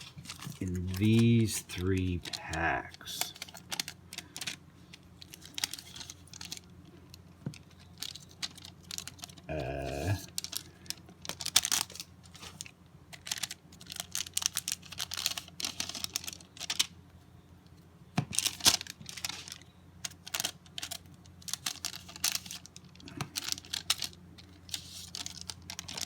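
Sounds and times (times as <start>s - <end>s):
wrapper crinkling: 0.0s - 1.4s, 3.2s - 16.9s, 18.3s - 26.0s
faint electrical hum: 0.0s - 26.0s.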